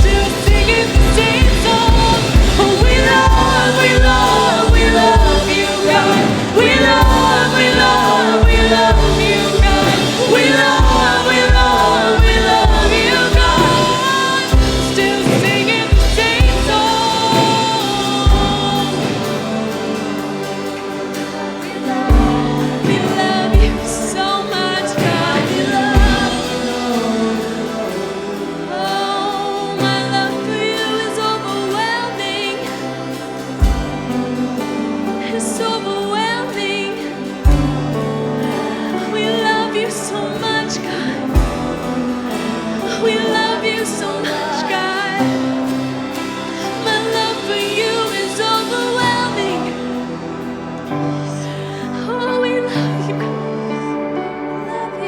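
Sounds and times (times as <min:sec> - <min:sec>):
band playing worship music: 0:00.0 - 0:55.0
singers holding melody lines: 0:00.0 - 0:55.0.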